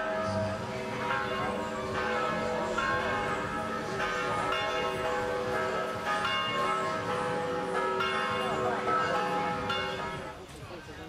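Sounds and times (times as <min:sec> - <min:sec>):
church bells ringing: 0:00.0 - 0:10.4.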